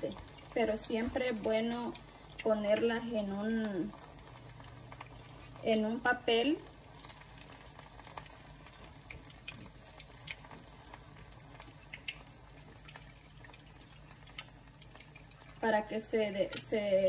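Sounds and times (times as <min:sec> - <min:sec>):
frying in hot oil sizzle: 0:00.0 - 0:17.0
oil dripping into pan: 0:00.0 - 0:17.0.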